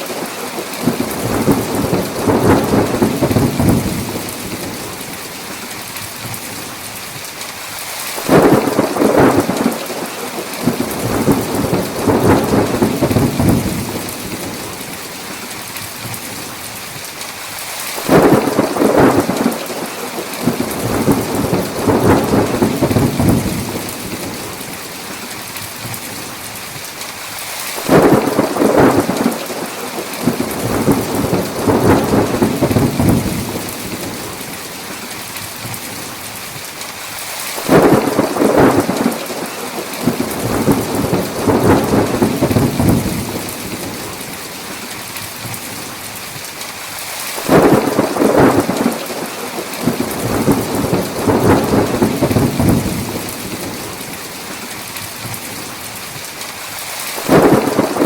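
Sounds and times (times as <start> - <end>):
heavy rain: 0.0 - 58.0
thunderclaps rolling: 0.1 - 5.6, 8.2 - 16.5, 18.0 - 26.3, 27.8 - 36.1, 37.6 - 45.8, 47.4 - 55.7, 57.2 - 58.0.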